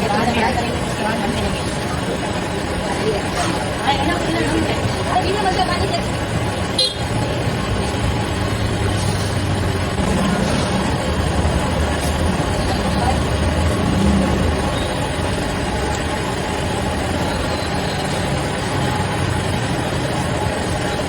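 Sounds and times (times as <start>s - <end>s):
street traffic noise: 0.0s - 21.0s
vehicle engine running nearby: 0.0s - 21.0s.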